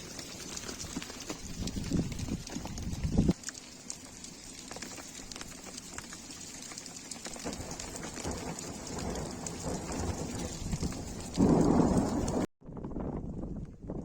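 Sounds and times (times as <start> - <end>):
rain drops hitting surfaces: 0.0 - 12.5.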